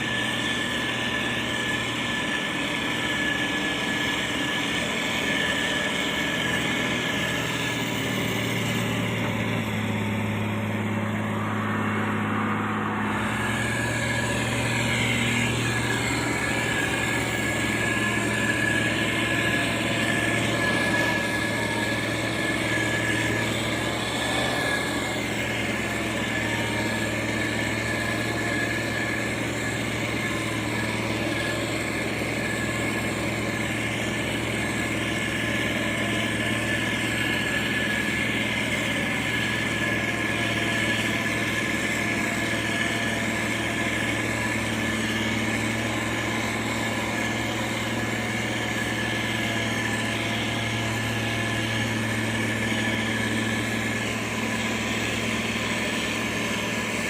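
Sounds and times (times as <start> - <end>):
diesel engine running: 0.0 - 57.0
high whine: 0.0 - 57.0.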